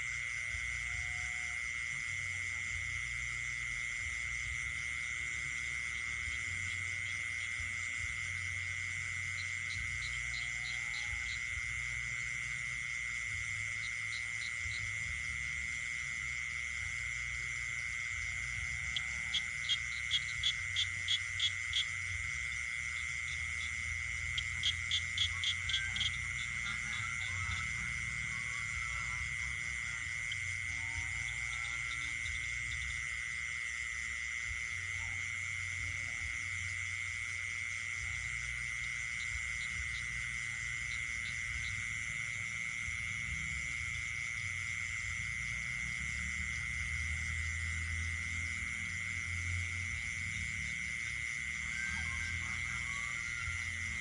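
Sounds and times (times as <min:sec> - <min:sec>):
high frog and insect trill: 0:00.0 - 0:54.0.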